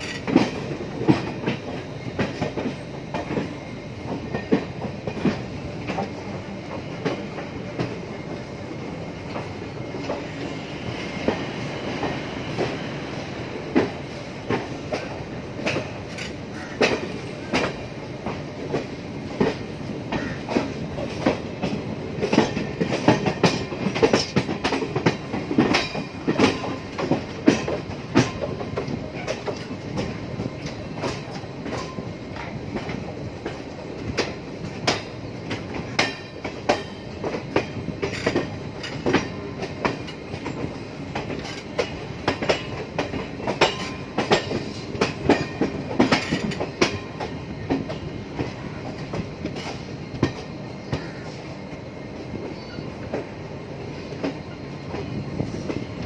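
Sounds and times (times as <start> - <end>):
wheels clicking over rail joints: 0.0 - 8.0, 13.7 - 51.4
train coach rumbling: 0.0 - 56.0.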